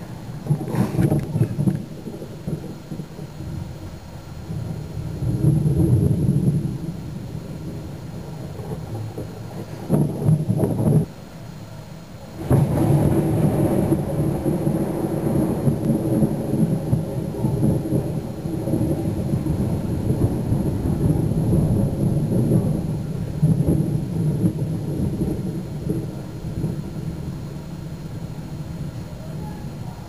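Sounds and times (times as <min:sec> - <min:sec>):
thunder rolling rumble: 0:00.0 - 0:11.2, 0:12.2 - 0:30.0.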